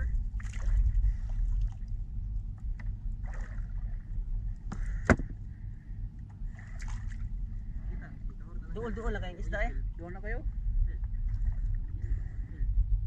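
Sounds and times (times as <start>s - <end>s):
water lapping against boat: 0.0s - 12.8s
low rumble: 0.0s - 13.0s.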